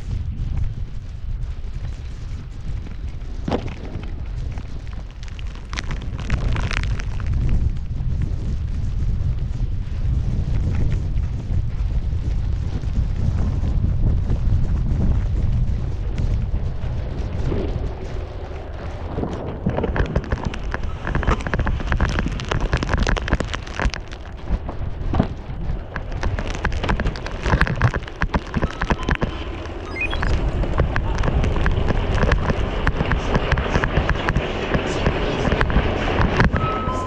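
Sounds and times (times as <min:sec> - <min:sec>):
skis cutting through powder snow: 0:00.0 - 0:37.0
wind on microphone: 0:00.0 - 0:37.0.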